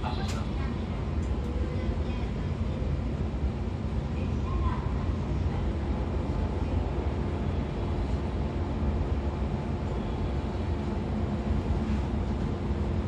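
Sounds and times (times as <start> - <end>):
train car rumble and hum: 0.0 - 13.0.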